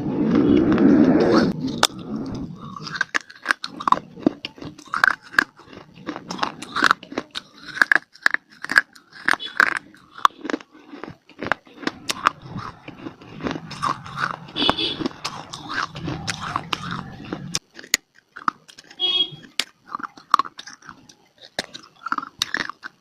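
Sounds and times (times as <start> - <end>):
wet mouth sounds: 0.1 - 23.0
mouth crunching and chewing: 0.2 - 23.0.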